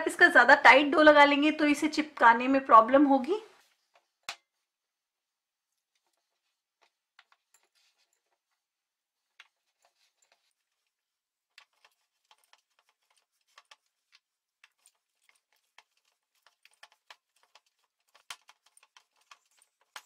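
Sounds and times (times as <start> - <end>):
hands kneading dough: 3.5 - 20.0.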